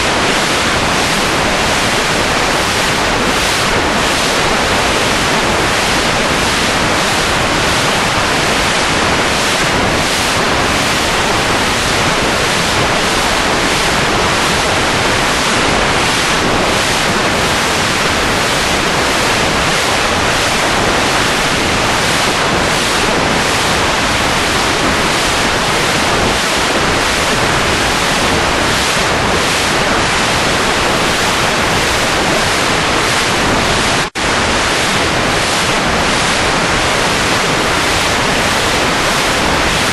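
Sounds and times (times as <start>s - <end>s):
loud steady rushing noise: 0.0s - 39.9s.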